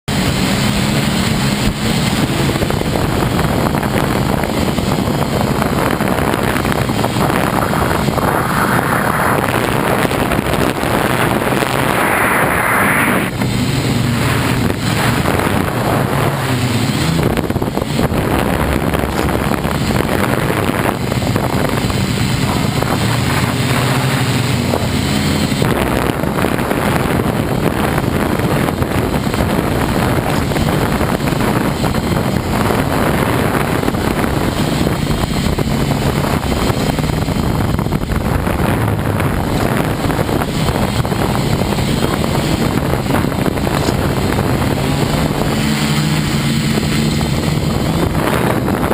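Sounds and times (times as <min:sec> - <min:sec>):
wind rushing over microphone: 0:00.0 - 0:48.9
drone motors humming: 0:00.1 - 0:48.9.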